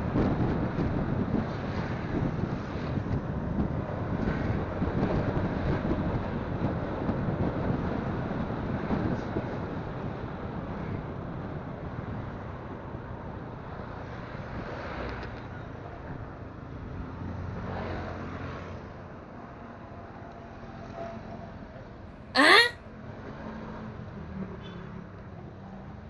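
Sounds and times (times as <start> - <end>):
wind: 0.0 - 22.1, 22.9 - 26.0.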